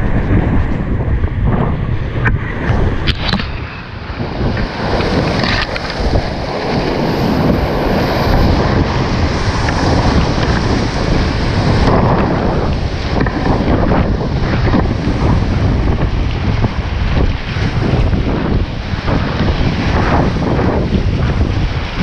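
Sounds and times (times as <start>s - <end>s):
water buffeting microphone: 0.0s - 22.0s
whitewater rushing: 2.7s - 22.0s.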